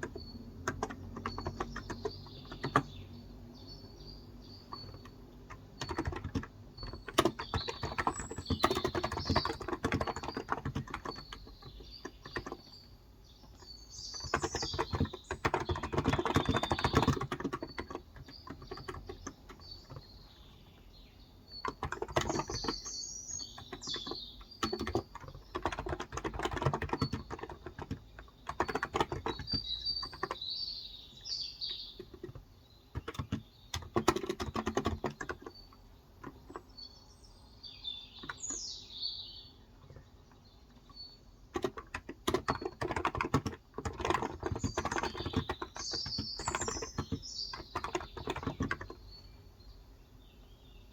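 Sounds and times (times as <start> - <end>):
keyboard typing: 0.0 - 12.8, 13.5 - 20.3, 21.5 - 30.5, 31.6 - 36.7, 40.7 - 49.2
birds chirping: 0.0 - 50.9.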